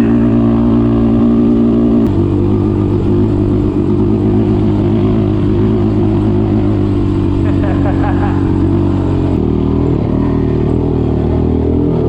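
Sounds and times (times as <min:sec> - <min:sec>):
loud off-road vehicle engine: 0:00.0 - 0:12.0.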